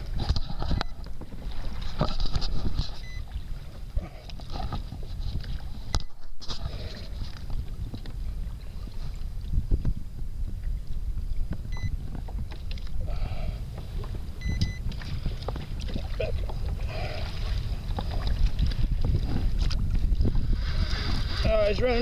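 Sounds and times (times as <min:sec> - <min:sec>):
water slapping against hull: 0:00.0 - 0:22.0
wind buffeting microphone: 0:00.0 - 0:22.0.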